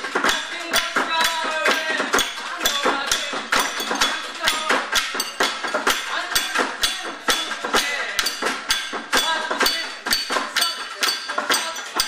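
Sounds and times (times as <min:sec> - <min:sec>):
percussion ensemble drumming: 0:00.0 - 0:12.0
voices singing: 0:00.0 - 0:12.0.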